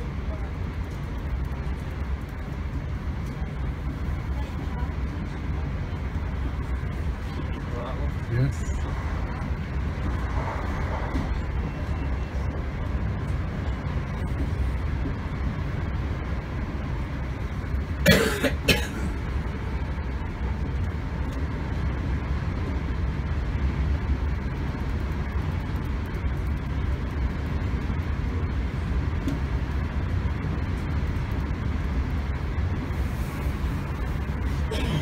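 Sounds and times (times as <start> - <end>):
train running rumble: 0.0 - 35.0.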